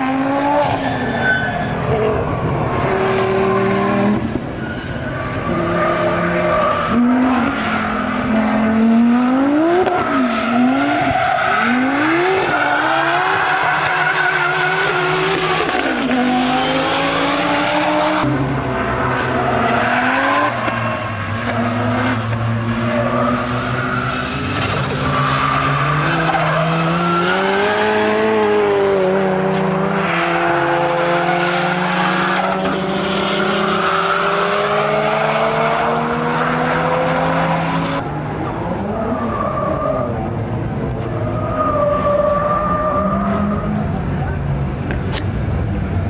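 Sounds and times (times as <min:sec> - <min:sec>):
car engines revving high: 0:00.0 - 0:46.0.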